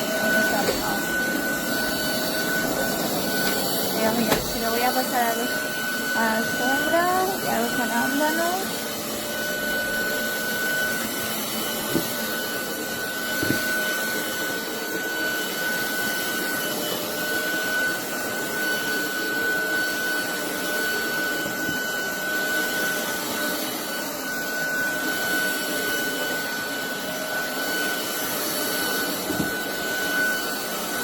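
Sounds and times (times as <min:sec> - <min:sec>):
vacuum cleaner whining: 0:00.0 - 0:31.0.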